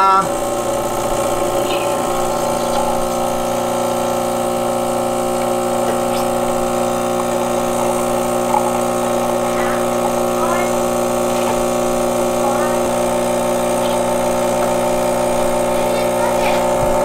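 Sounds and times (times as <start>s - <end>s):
espresso machine pump running: 0.0s - 17.0s
espresso streaming into cup: 0.0s - 17.0s.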